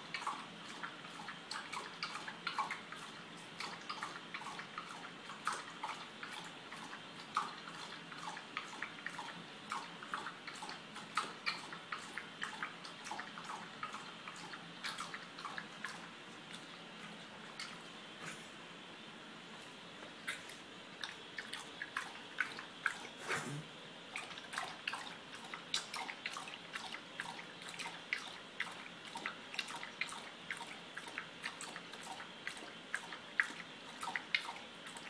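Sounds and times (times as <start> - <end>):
dog lapping water from metal bowl: 0.0 - 17.9, 20.3 - 23.2, 24.1 - 35.0.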